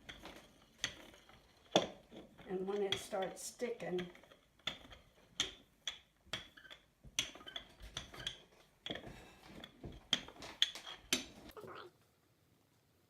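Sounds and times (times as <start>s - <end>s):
rolling pin on dough: 0.0s - 11.6s.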